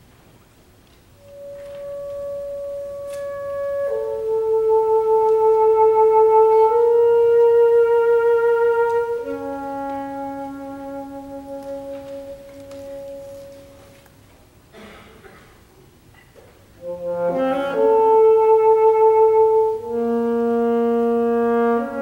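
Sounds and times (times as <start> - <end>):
orchestra playing long notes: 1.2 - 14.1, 16.8 - 22.0
alto saxophone: 1.2 - 14.3, 16.8 - 22.0.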